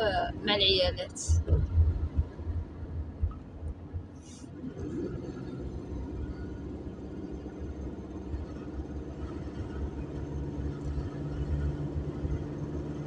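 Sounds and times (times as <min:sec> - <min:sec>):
car engine hum: 0:00.0 - 0:13.0
road noise inside car: 0:00.0 - 0:13.0.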